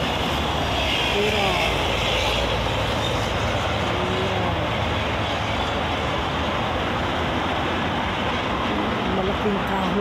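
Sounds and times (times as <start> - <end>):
highway traffic passing: 0.0 - 10.0.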